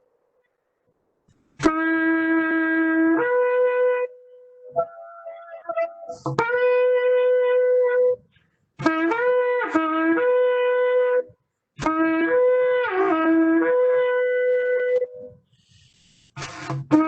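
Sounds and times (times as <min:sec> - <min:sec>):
shofar blasts: 0:01.6 - 0:17.0.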